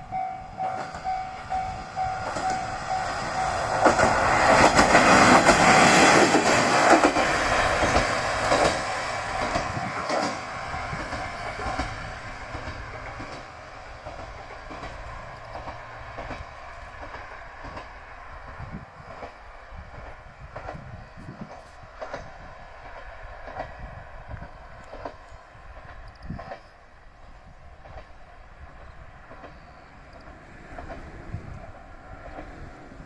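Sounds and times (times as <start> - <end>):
diesel railcar passing: 0.0 - 33.0
wheels clacking over rail joints: 0.1 - 26.8, 27.8 - 33.0.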